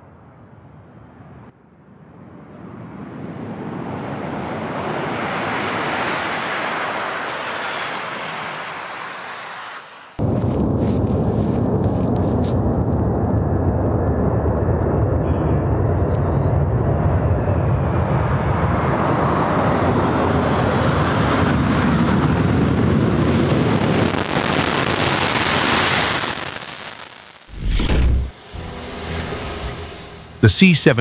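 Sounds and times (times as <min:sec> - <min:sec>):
jet engines rumbling: 0:02.0 - 0:24.0, 0:27.5 - 0:31.0.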